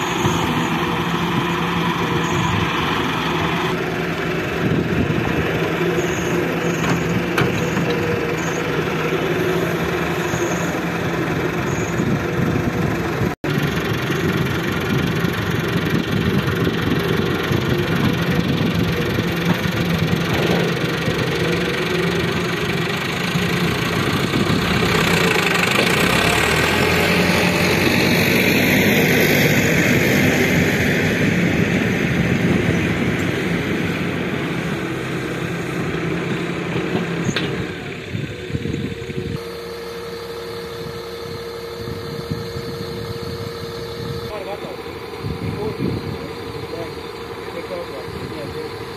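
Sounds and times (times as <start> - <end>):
excavator diesel engine running: 0.0 - 48.9
tractor engine running: 0.0 - 48.9.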